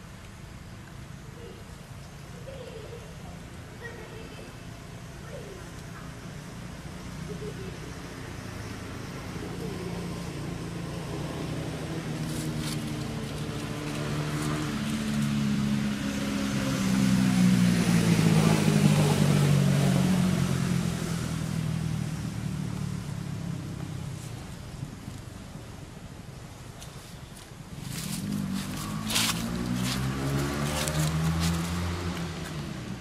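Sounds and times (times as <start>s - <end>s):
motor vehicle passing by: 1.4s - 26.0s, 26.8s - 33.0s.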